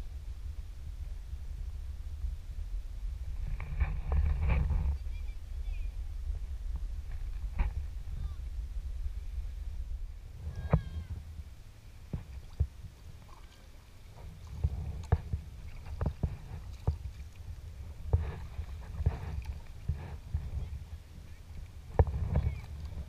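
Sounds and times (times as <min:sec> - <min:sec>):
steady low rumble: 0:00.0 - 0:23.0
water splashing against kayak hull: 0:03.2 - 0:23.0.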